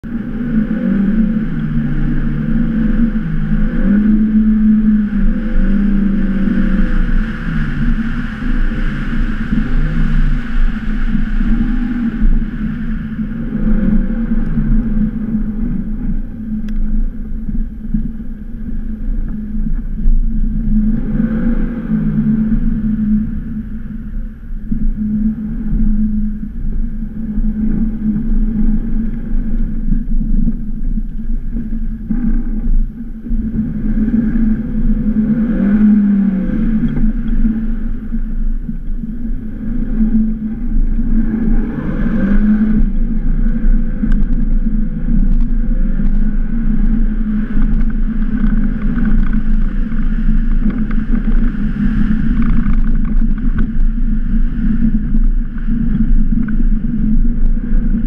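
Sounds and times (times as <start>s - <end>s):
car engine revving: 0.0s - 58.0s
steady rushing noise: 0.0s - 58.0s.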